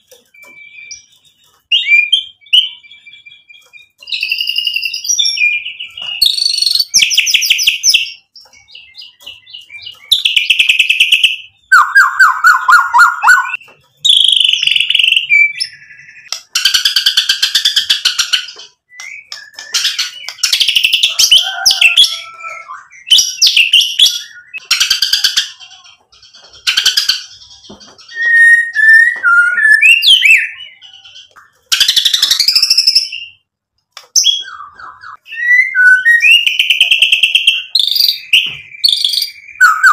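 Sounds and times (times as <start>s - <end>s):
songbird singing: 0.0s - 33.5s, 34.1s - 39.9s.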